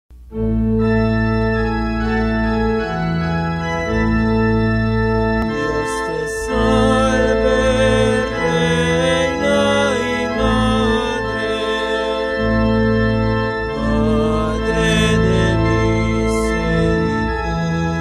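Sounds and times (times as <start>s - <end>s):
organ playing sustained chords: 0.1s - 18.0s.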